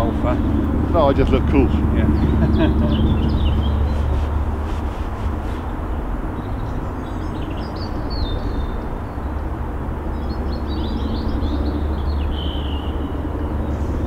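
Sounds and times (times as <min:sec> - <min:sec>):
helicopter rumble: 0:00.0 - 0:14.0
small birds chirping: 0:00.0 - 0:14.0.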